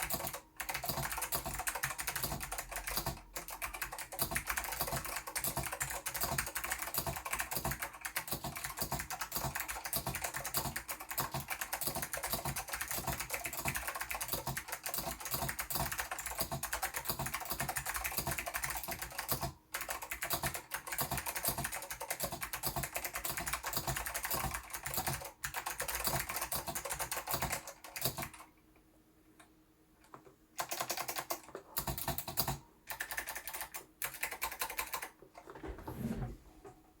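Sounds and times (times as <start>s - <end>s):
mechanical keyboard clicking: 0.0s - 28.5s, 30.6s - 35.2s.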